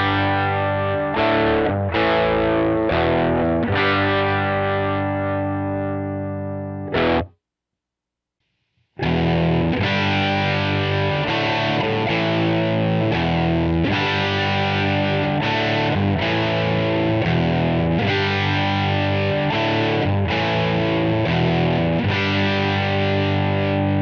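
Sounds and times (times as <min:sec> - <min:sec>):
electric guitar chords: 0:00.0 - 0:07.3, 0:09.0 - 0:24.0
guitar rhythm of repeated chords: 0:00.0 - 0:07.3, 0:09.0 - 0:24.0.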